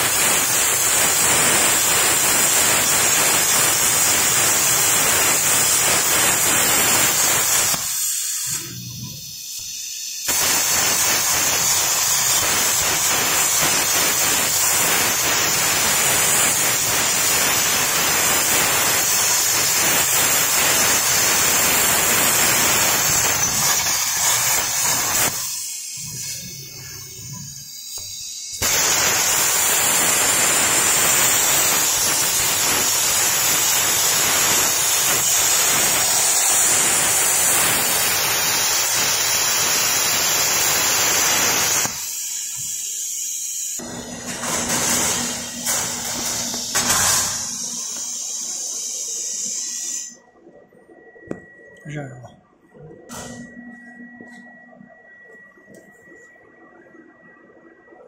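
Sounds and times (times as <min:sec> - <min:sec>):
plasma torch cutting steel: 0:00.0 - 0:50.3.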